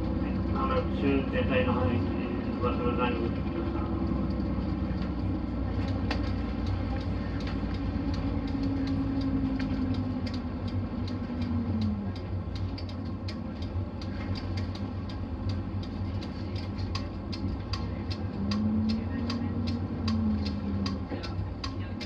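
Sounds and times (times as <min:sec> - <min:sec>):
bus diesel engine hum: 0:00.0 - 0:22.0
drivetrain whine: 0:00.0 - 0:22.0
light ticks: 0:03.8 - 0:22.0.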